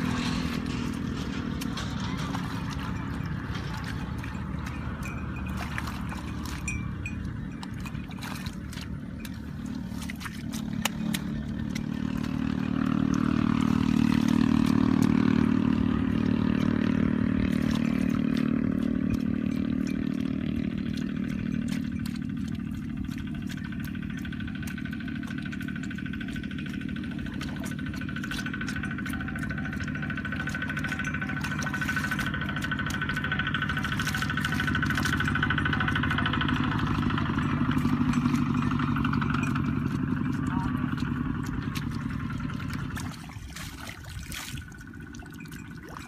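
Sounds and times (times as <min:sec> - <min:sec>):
hands scooping mud: 0:00.0 - 0:46.0
motor engine running: 0:00.0 - 0:46.0.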